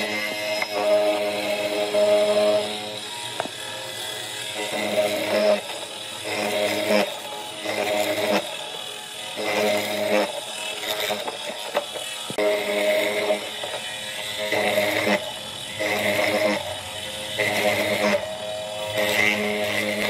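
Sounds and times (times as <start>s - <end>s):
power tool motor cutting log: 0.0s - 20.0s.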